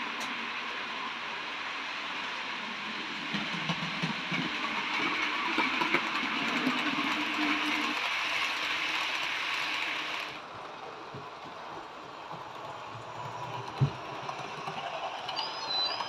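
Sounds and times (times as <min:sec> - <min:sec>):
model train wheels and motor: 0:00.0 - 0:16.0.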